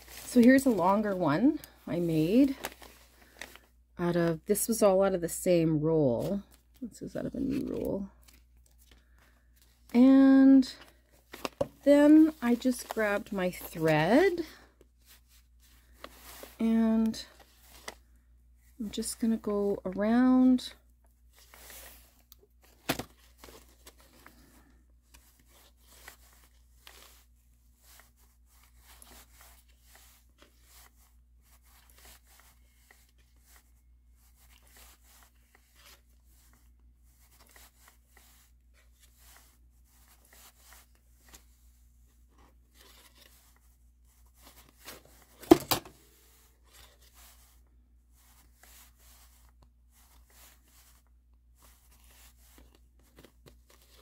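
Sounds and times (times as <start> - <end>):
thread rustling through paper: 0.0 - 3.8, 7.4 - 18.2, 21.3 - 45.5, 46.2 - 54.0.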